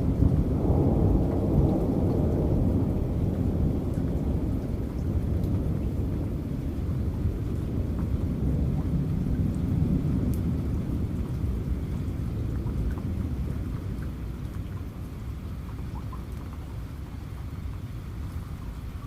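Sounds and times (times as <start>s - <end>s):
low rumble of thunder: 0.0s - 19.0s
rain falling: 0.0s - 19.0s.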